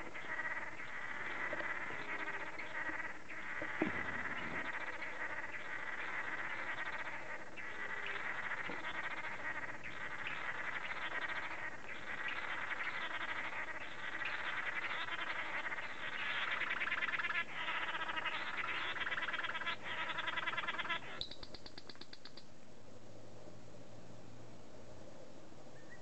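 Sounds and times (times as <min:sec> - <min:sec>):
birds buzzy pulsed calls: 0:00.0 - 0:22.5.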